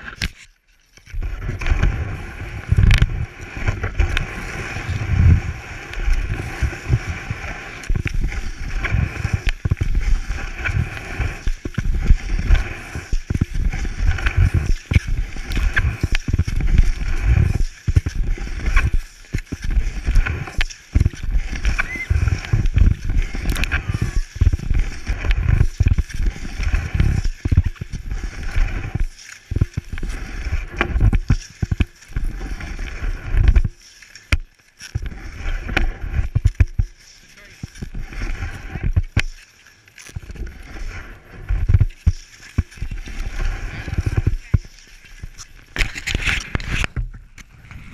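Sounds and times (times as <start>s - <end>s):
ski knocks and scrapes: 0.0s - 47.9s
skis sliding over snow: 0.0s - 47.9s.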